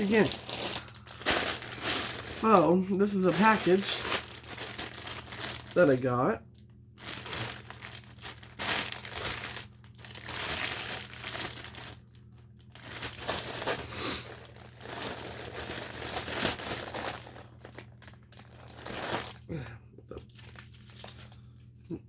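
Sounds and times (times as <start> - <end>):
wrapping crinkling and rustling: 0.0 - 21.8.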